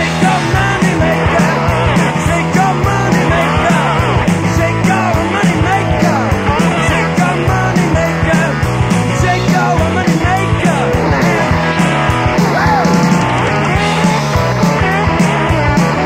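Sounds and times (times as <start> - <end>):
rock and roll band music: 0.0 - 16.0.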